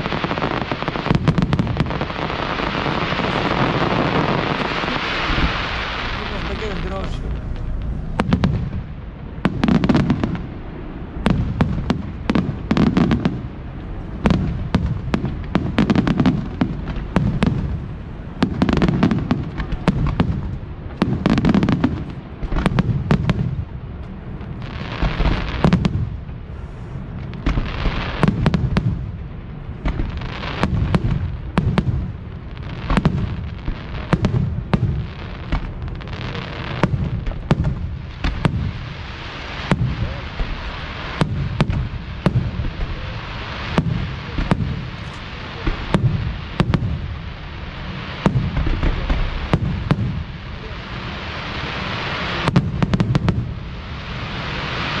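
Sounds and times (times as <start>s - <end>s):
fireworks cracks and bangs: 0.0s - 55.0s
fireworks deep booms: 0.0s - 55.0s
fireworks hissing: 0.0s - 55.0s.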